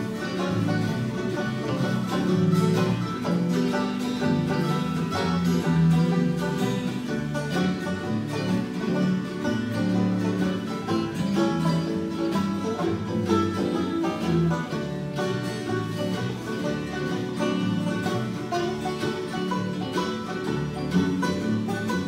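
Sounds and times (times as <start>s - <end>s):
acoustic guitars: 0.0s - 22.0s
mandolin: 0.0s - 22.0s.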